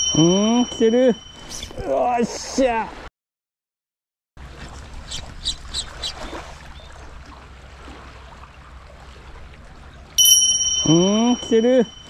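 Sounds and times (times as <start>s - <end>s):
sea water against rocks: 0.0s - 3.1s, 4.4s - 12.0s.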